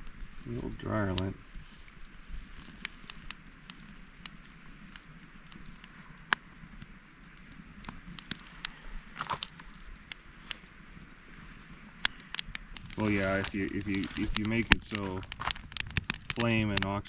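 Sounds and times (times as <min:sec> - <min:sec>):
campfire crackling and popping: 0:00.0 - 0:17.0
fire hiss: 0:00.0 - 0:17.0.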